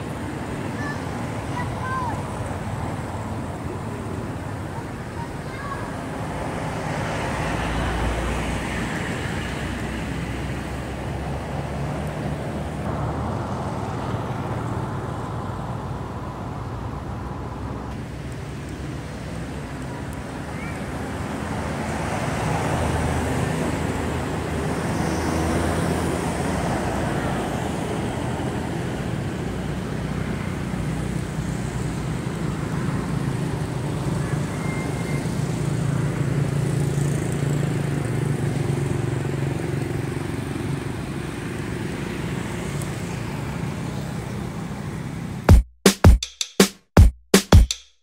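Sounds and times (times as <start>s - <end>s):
road traffic hum: 0.0s - 45.6s.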